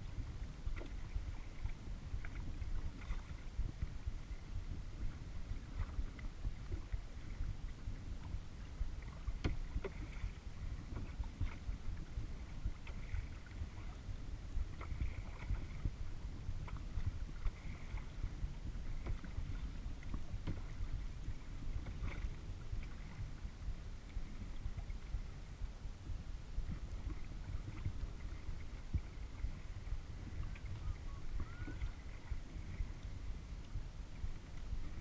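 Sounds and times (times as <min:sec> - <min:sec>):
steady low rumble: 0:00.0 - 0:35.0
paddle splashing in water: 0:00.1 - 0:25.6, 0:26.6 - 0:35.0.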